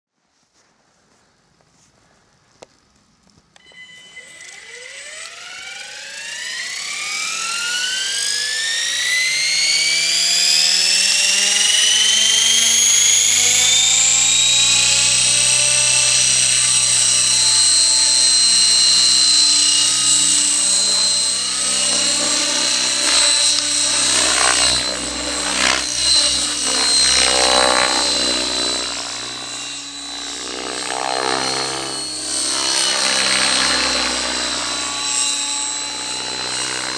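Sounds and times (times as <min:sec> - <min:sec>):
model helicopter whine: 0:03.3 - 0:36.9.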